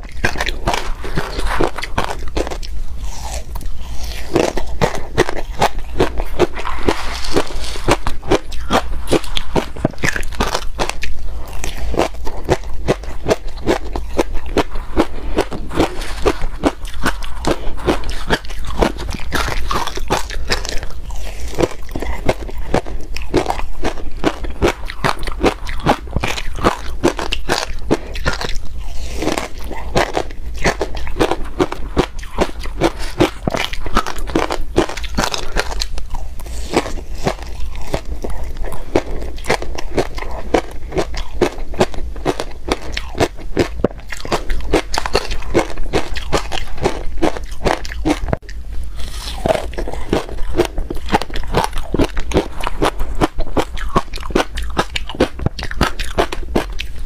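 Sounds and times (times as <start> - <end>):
crushed ice being chewed: 0.0 - 57.0.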